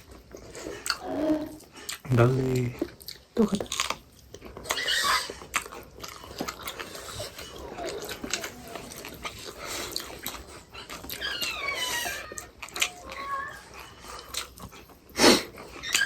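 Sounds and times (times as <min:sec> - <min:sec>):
dog whining: 0:00.5 - 0:02.7, 0:04.6 - 0:16.0.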